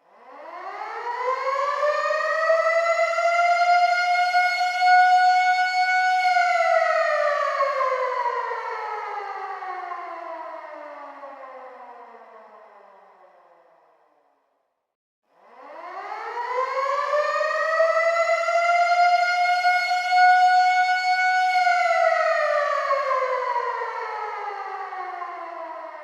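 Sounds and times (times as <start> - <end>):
air raid siren wailing: 0.2 - 13.6, 15.4 - 26.0.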